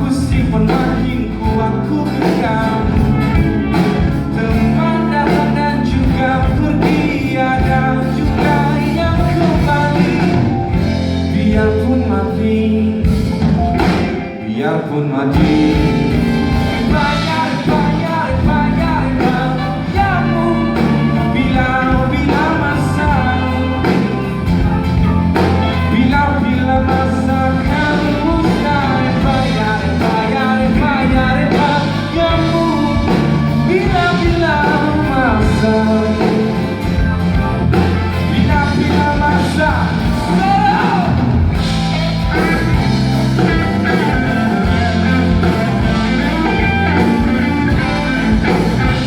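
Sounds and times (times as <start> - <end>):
bending lead melody: 0.0 - 49.0
live rock band playing: 0.0 - 49.0.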